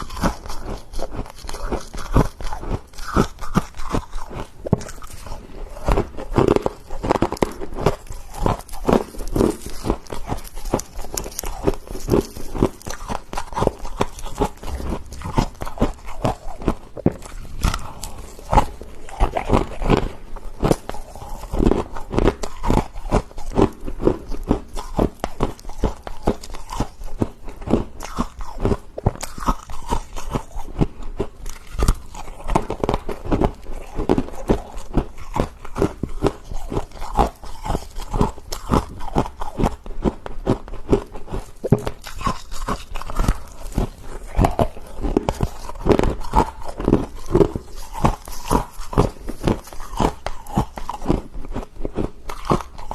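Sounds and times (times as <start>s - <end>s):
crunching frost being chewed: 0.0s - 52.9s.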